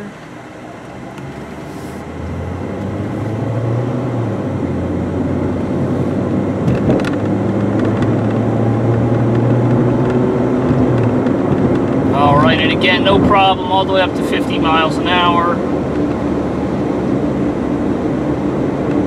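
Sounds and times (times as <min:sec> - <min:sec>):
car engine hum from cabin: 0:00.0 - 0:19.0
road and tyre noise: 0:00.0 - 0:19.0.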